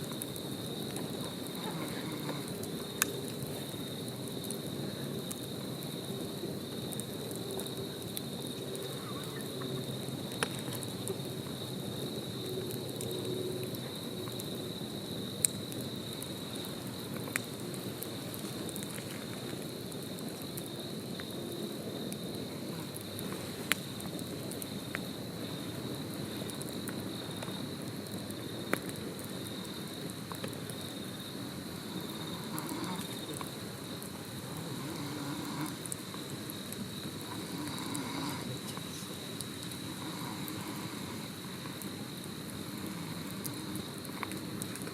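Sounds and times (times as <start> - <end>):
campfire crackling and popping: 0.0 - 44.9
insects chirring: 0.0 - 44.9.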